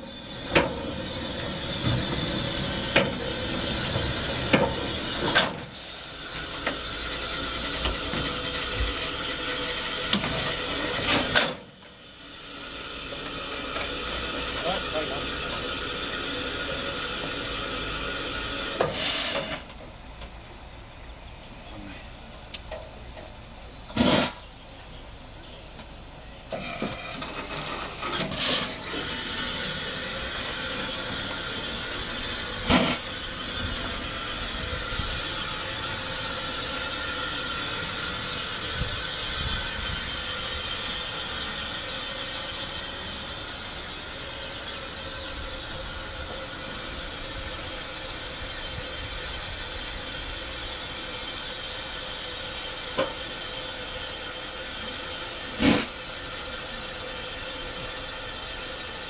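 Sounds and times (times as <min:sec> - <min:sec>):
loud steam bursts: 0:00.0 - 0:59.0
steam hissing from locomotive: 0:00.0 - 0:59.0.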